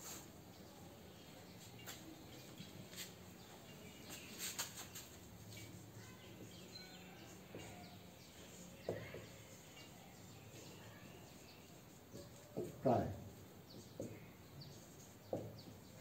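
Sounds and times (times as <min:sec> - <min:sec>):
birds chirping: 0:00.4 - 0:16.0.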